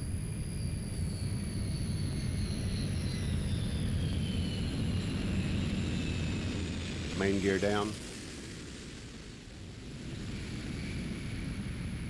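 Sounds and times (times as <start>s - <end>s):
jet engines rumbling with whine: 0.0s - 12.0s.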